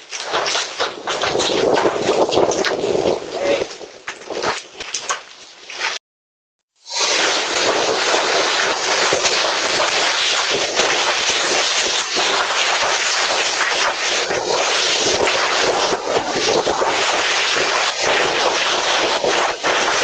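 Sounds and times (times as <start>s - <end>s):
heavy hail clattering: 0.0s - 3.8s, 7.3s - 20.0s.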